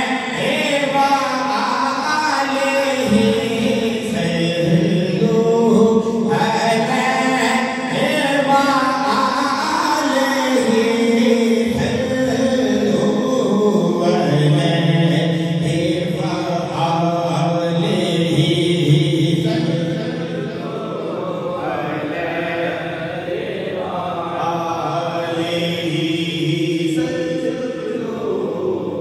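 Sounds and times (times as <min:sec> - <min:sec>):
man singing into a microphone: 0:00.0 - 0:20.7, 0:23.7 - 0:29.0.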